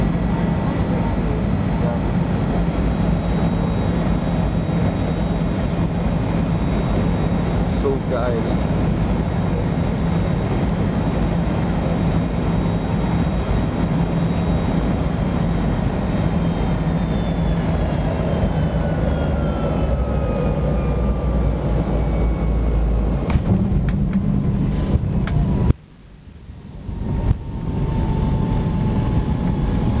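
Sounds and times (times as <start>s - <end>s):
airliner cabin engine rush: 0.0s - 25.8s, 26.4s - 30.0s
engine whine falling in pitch: 0.0s - 30.0s.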